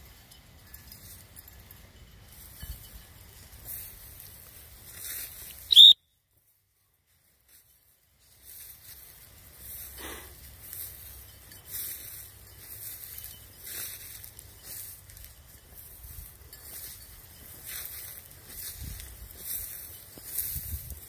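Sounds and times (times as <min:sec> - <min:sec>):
footsteps through dry grass: 0:00.0 - 0:21.0.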